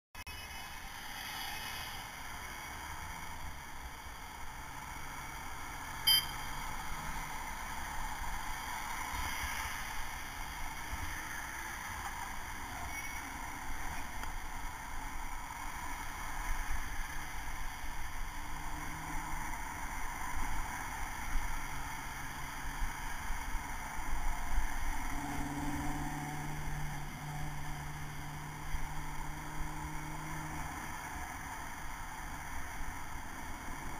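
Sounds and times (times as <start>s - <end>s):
road noise: 0.1s - 33.9s
nearby engine hum: 0.3s - 33.9s
passing car engines: 0.3s - 33.9s.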